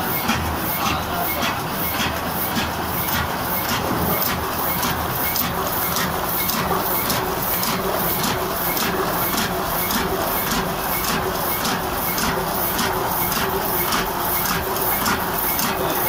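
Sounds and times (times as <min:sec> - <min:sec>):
printing press clattering: 0:00.0 - 0:16.0.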